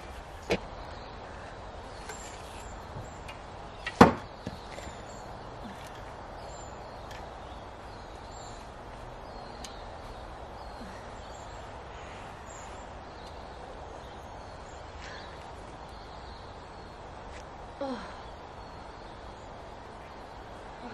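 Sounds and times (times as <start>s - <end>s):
low background noise: 0.0s - 20.9s.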